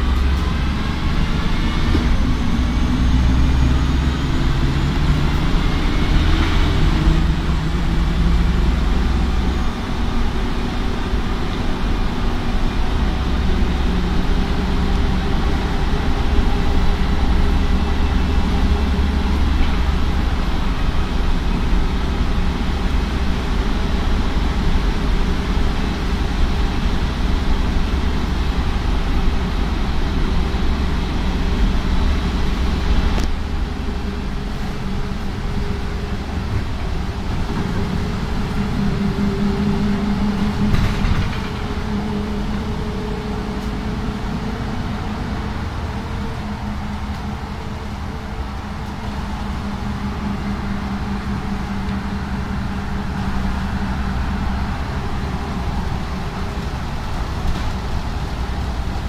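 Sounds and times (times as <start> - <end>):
bus engine drone: 0.0 - 59.0
road rumble: 0.0 - 59.0.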